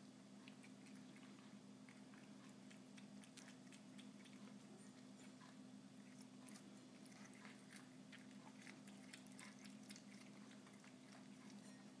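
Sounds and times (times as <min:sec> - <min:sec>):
low steady hum: 0:00.0 - 0:12.0
cats chewing food: 0:00.3 - 0:12.0.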